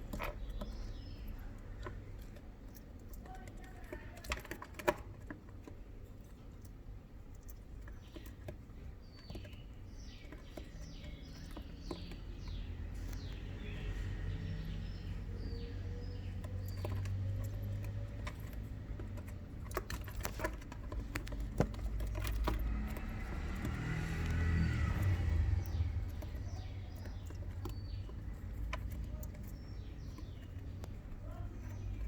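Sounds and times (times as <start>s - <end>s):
hedgehog chewing crunchy food: 0.0s - 32.0s.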